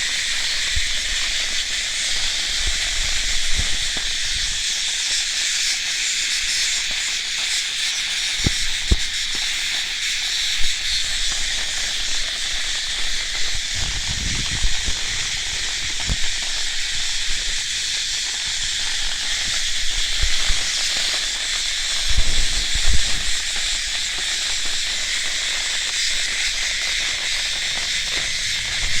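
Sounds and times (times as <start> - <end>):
cicada buzzing: 0.0 - 29.0.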